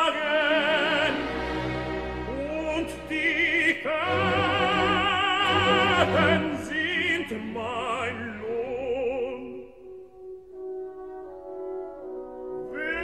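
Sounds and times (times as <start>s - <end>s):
orchestra playing: 0.0s - 9.7s, 10.4s - 13.0s
operatic tenor singing: 0.0s - 13.0s.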